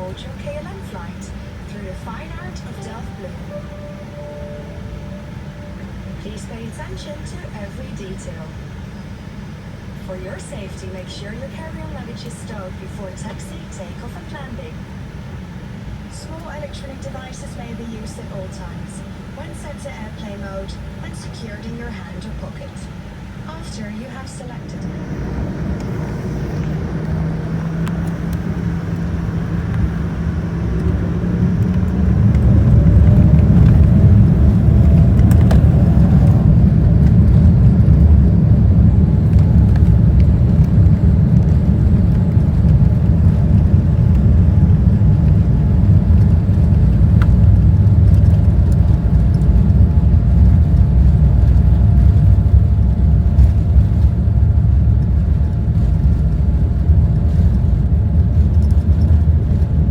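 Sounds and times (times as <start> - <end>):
rising engine whine: 0.0 - 12.1, 22.8 - 59.9
jet engines spooling up: 0.0 - 59.8
engine rumble: 0.0 - 59.9.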